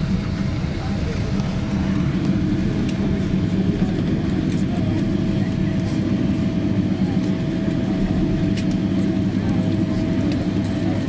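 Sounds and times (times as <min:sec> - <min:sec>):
low rumble of engines and wheels: 0:00.0 - 0:11.0.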